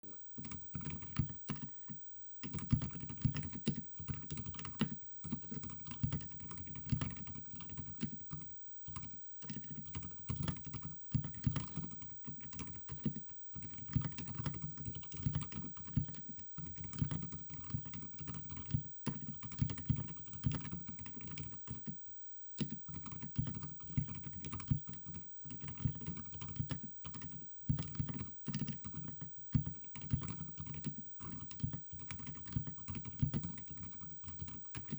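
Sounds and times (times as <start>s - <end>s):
typing on mechanical keyboard: 0.4s - 1.7s, 2.4s - 21.9s, 22.6s - 34.9s.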